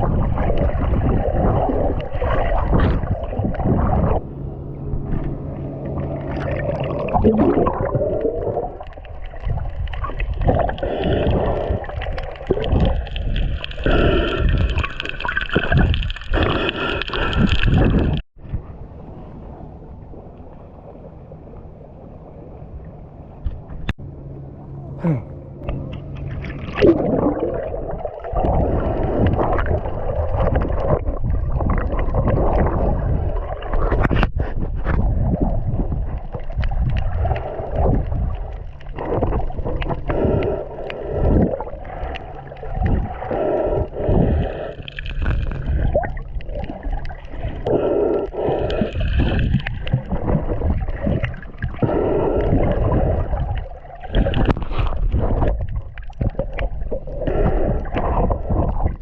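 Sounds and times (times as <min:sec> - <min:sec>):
constant low rumble: 0:00.0 - 0:59.0
water sloshing and gurgling: 0:00.0 - 0:59.0.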